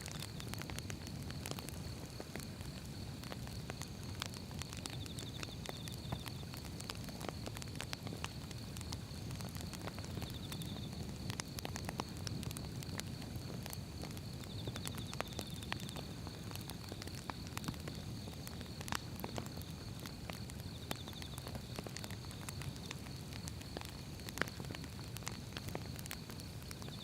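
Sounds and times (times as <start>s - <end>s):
low rumble of flames: 0.0s - 27.0s
wood fire crackling: 0.0s - 27.0s.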